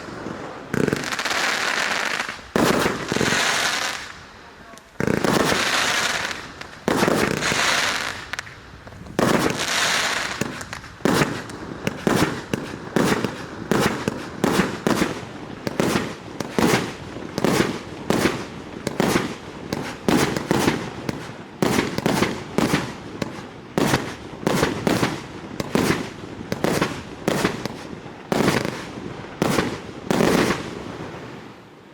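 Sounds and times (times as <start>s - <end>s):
firework shots with fizz: 0.0s - 4.3s, 5.0s - 31.6s
firework crackling bursts: 0.0s - 31.6s.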